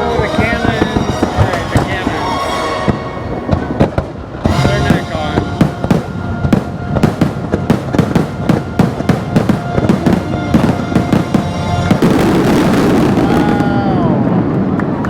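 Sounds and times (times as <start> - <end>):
orchestral music: 0.0 - 14.3
fireworks explosions: 0.0 - 15.0.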